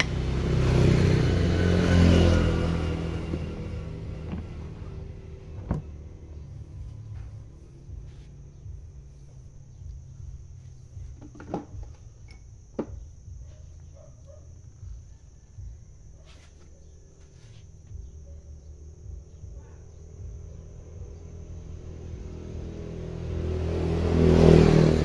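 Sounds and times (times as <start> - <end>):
low background rumble: 2.4 - 16.2, 16.8 - 23.4.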